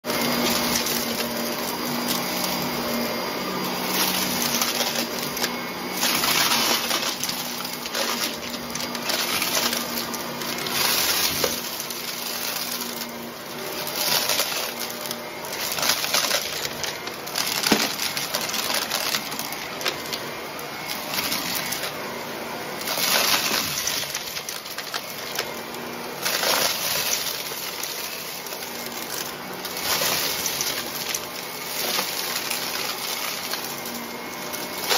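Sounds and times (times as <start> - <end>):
vacuum cleaner motor hum: 0.0 - 34.9
grit crunching and rattling: 0.2 - 22.0, 22.8 - 34.9.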